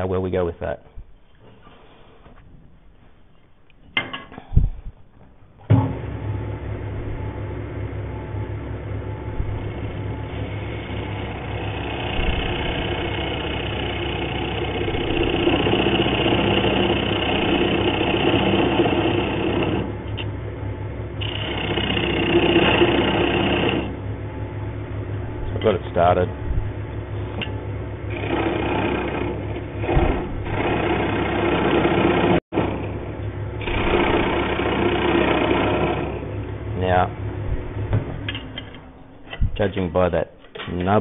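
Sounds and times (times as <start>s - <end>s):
lathe motor humming: 5.8s - 39.0s.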